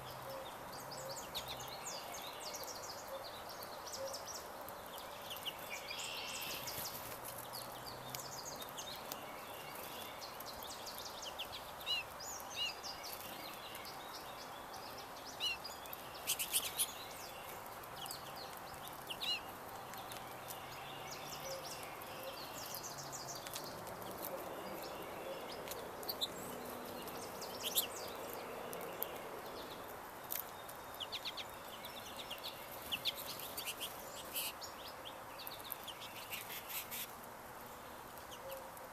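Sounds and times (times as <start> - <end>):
outdoor background hiss: 0.0 - 38.9
songbirds chirping: 0.0 - 38.9.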